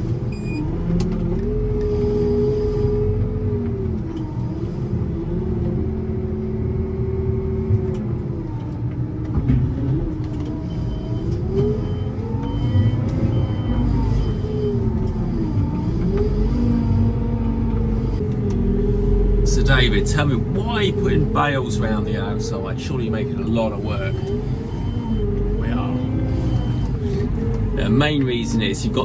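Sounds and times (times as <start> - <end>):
diesel engine revving under load: 0.0 - 29.0.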